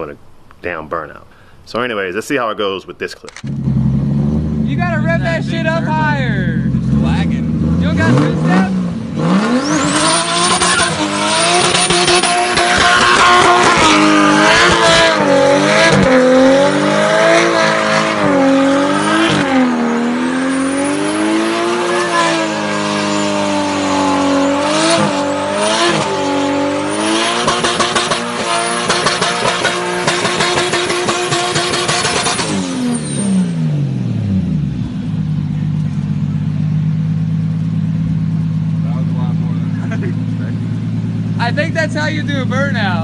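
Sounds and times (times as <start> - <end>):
car engine revving high: 3.4 - 43.0.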